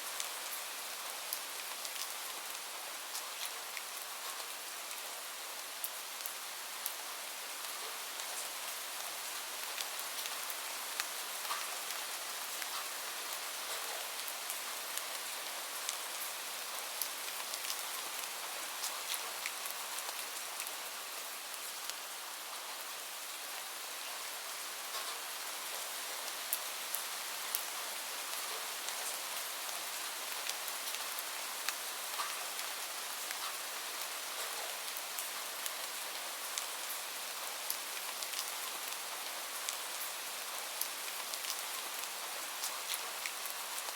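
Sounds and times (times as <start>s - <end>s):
gentle rain hiss: 0.0s - 43.9s.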